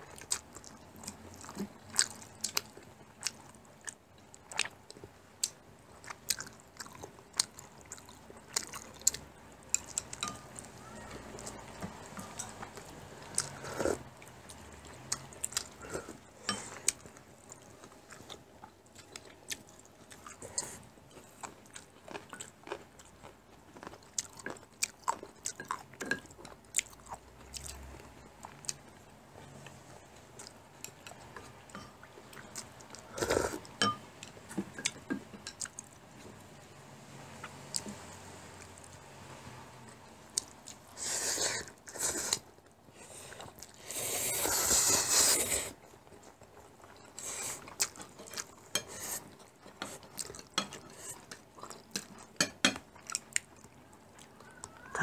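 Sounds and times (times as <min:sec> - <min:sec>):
chewing and mouth sounds: 0:00.0 - 0:36.0, 0:39.9 - 0:55.0.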